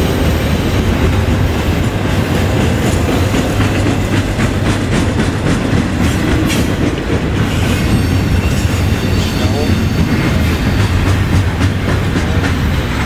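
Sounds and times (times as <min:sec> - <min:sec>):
freight train rumbling: 0:00.0 - 0:13.0
wheels clicking over rail joints: 0:00.9 - 0:13.0.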